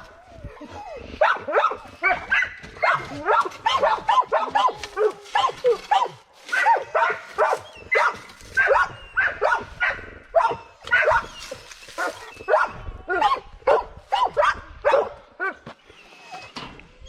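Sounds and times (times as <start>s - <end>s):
dogs barking: 1.1s - 15.8s.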